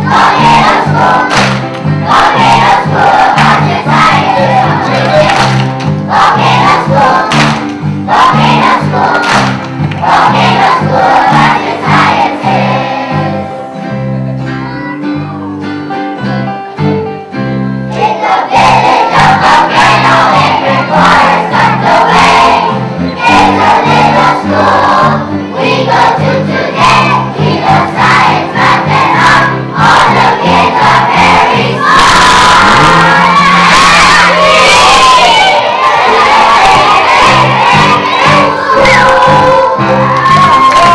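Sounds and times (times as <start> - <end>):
children singing: 0.0 - 13.6, 17.9 - 40.9
instrumental accompaniment: 0.0 - 40.9.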